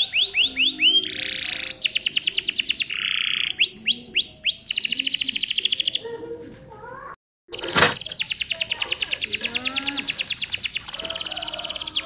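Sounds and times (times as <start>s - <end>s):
canary singing: 0.0s - 6.2s, 7.5s - 12.0s.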